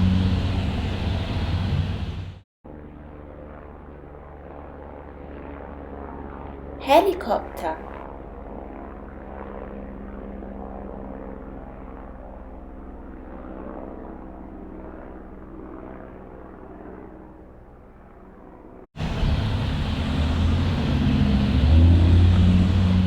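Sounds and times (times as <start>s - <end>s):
helicopter engine and rotor drone: 0.1s - 6.8s, 7.9s - 21.5s.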